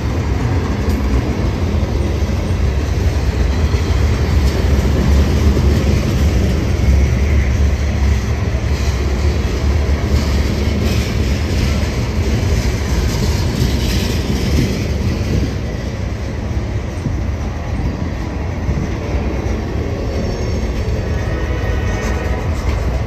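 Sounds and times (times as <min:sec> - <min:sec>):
steel train wheels on rails: 0:00.0 - 0:23.0.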